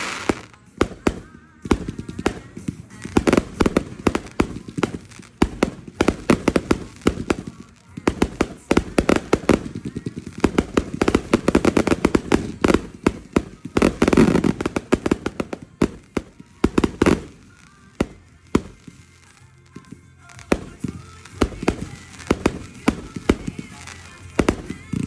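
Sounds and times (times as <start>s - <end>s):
fireworks popping and cracking: 0.0s - 25.0s.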